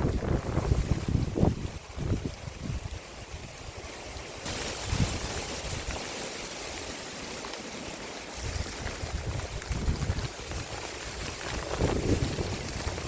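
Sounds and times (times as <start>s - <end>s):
wind gusts buffeting microphone: 0.0s - 6.0s, 8.4s - 13.0s
rain hissing: 0.0s - 13.0s
wind: 0.0s - 13.0s.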